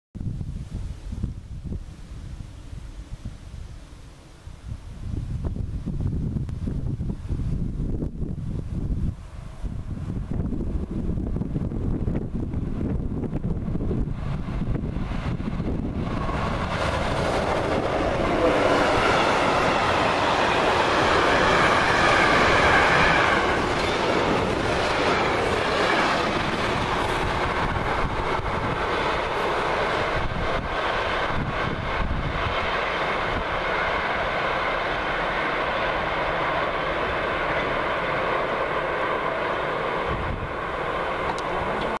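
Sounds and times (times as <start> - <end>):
electric locomotive passing: 0.8 - 42.0.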